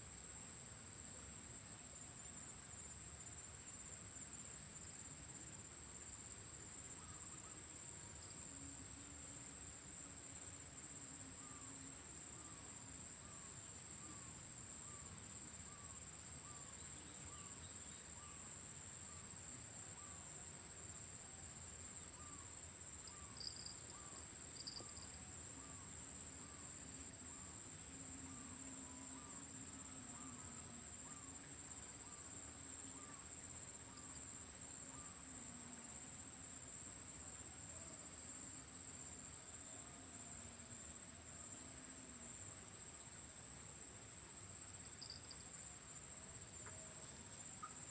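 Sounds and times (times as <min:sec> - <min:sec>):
high insect whine: 0:01.8 - 0:47.9.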